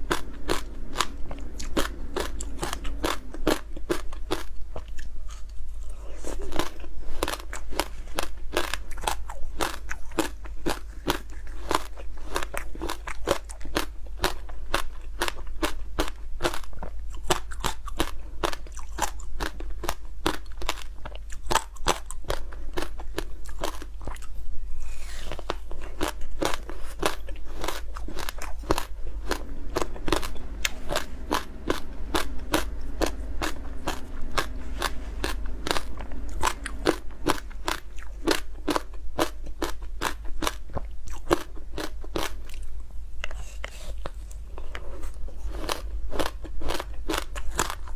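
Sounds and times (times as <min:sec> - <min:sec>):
crunching and chewing frozen fruit: 0:00.0 - 0:47.9.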